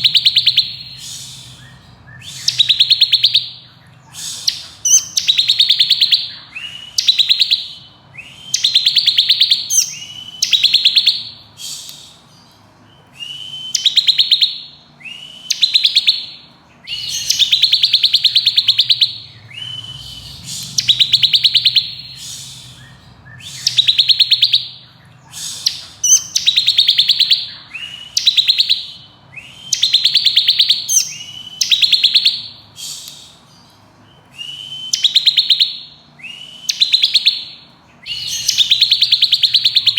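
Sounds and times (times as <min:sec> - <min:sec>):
bird singing buzzy trills: 0:00.0 - 0:39.9.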